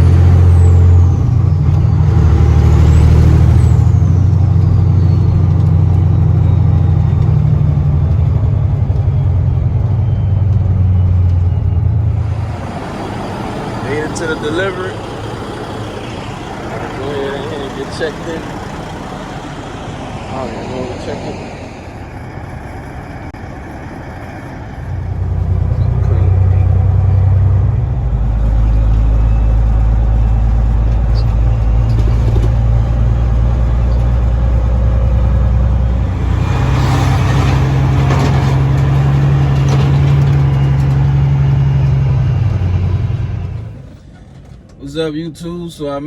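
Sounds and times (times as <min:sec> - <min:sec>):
truck diesel engine drone: 0:00.0 - 0:46.0.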